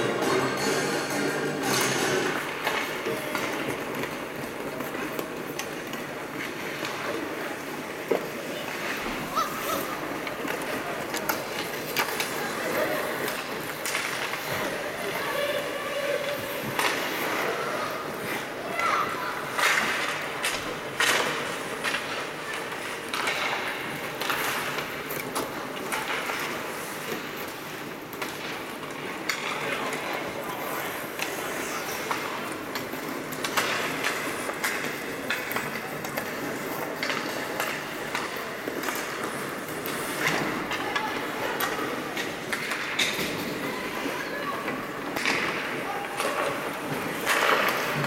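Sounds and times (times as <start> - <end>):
hockey sticks clacking on puck: 0.0 - 48.0
skates scraping on ice: 0.0 - 48.0
voices echoing in arena: 0.0 - 48.0.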